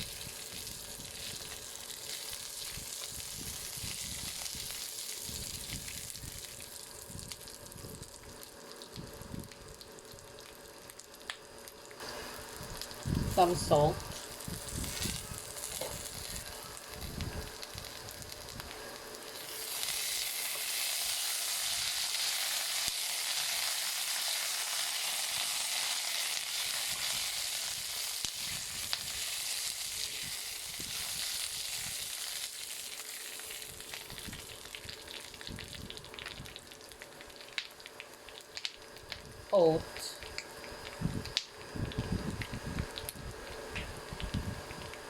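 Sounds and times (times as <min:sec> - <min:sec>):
food sizzling in a pan: 0:00.0 - 0:09.2, 0:09.8 - 0:39.8.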